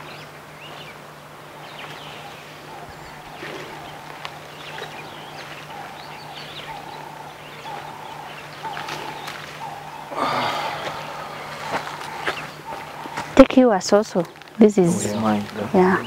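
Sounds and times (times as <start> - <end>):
higher bird chirps: 0.0 - 13.5
steady low hum: 0.0 - 16.0.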